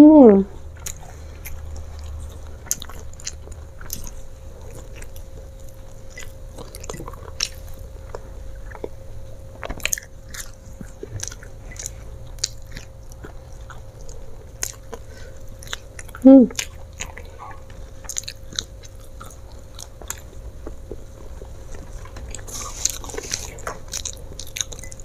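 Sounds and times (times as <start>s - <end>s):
chewing crunchy fries: 0.5s - 25.0s.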